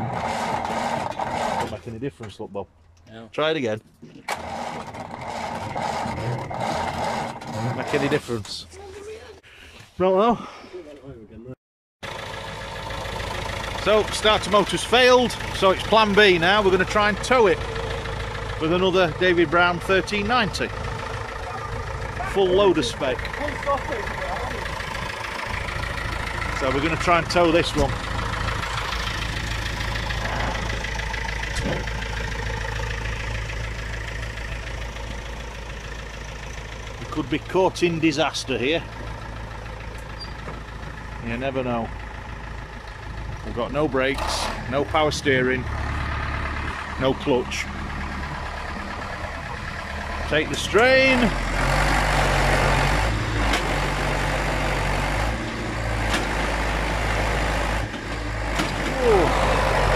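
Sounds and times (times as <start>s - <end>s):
tractor diesel engine idling: 4.2s - 9.7s, 12.0s - 59.9s.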